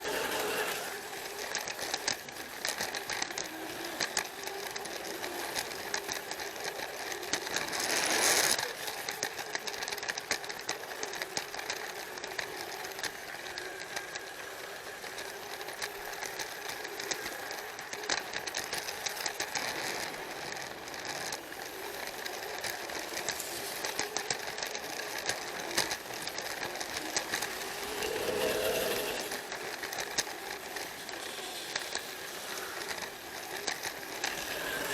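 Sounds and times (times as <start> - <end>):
rapid clicking of wheels: 0.0 - 34.9
toy train motor whirring: 0.0 - 34.9.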